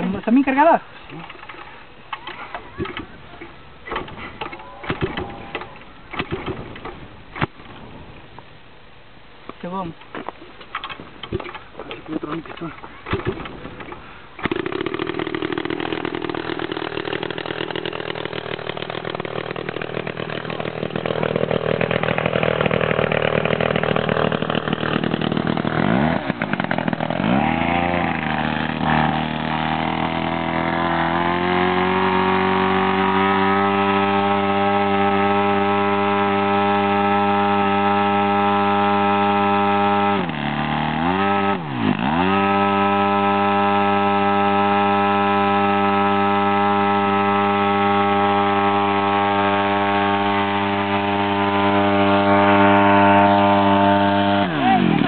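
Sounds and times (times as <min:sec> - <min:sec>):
model airplane engine: 0:00.0 - 0:08.0, 0:10.7 - 0:55.0.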